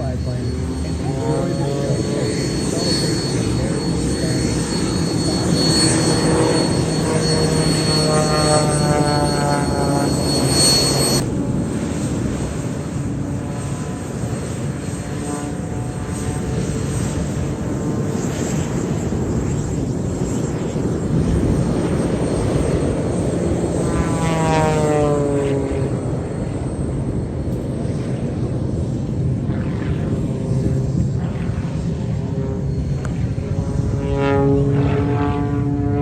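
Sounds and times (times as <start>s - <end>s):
propeller plane engine drone: 0.0s - 36.0s.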